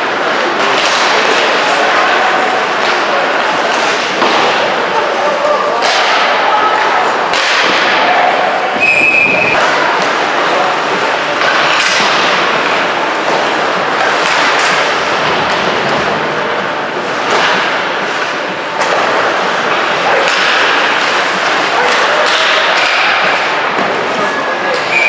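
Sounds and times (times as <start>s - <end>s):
hockey sticks and puck clacking: 0.0s - 25.0s.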